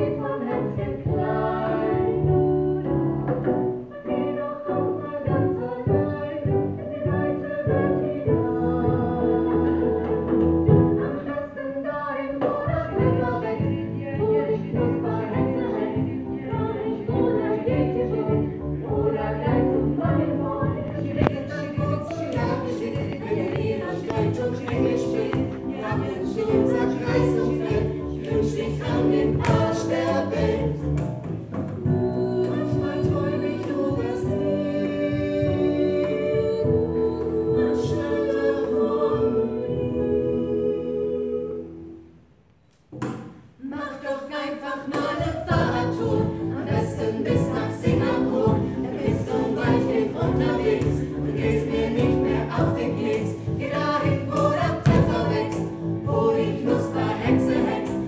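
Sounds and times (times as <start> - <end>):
vocal group singing in harmony: 0.0 - 42.1, 43.6 - 58.0.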